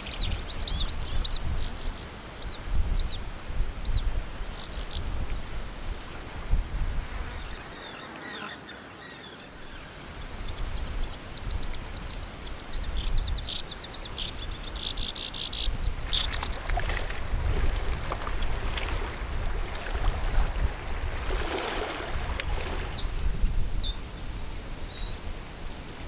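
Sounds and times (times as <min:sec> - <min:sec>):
wind rumbling on microphone: 0:00.0 - 0:07.9, 0:09.7 - 0:26.0.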